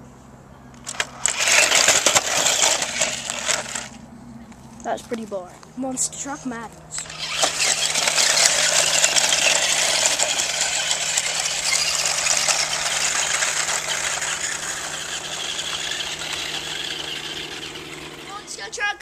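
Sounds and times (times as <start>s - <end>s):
toy truck mechanical rattle and whir: 0.8s - 4.0s, 6.9s - 18.9s.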